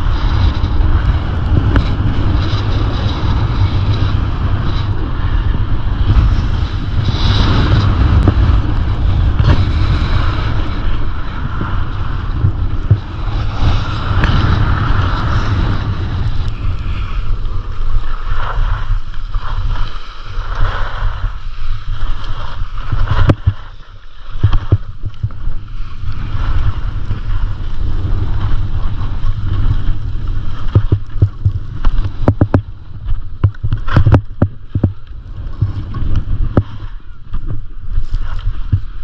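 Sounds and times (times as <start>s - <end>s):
skis scraping over snow: 0.0s - 39.0s
wind buffeting microphone: 0.0s - 39.0s.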